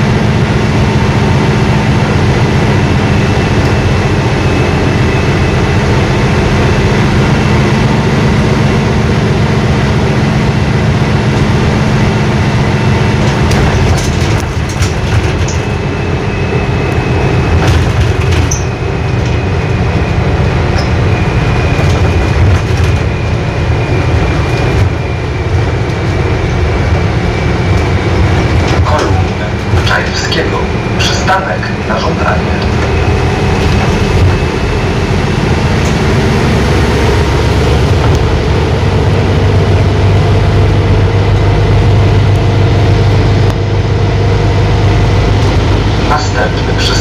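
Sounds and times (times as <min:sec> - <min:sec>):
bus diesel engine drone: 0:00.0 - 0:47.0.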